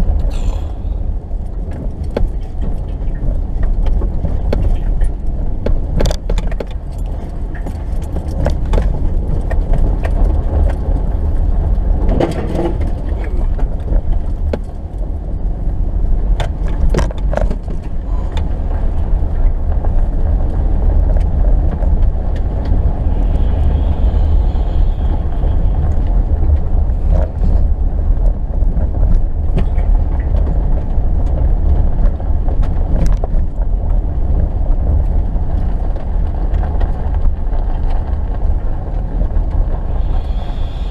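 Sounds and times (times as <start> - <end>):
knocks and rattles over bumps: 0.0 - 23.1, 25.8 - 39.8
car rumbling over snow: 0.0 - 40.9.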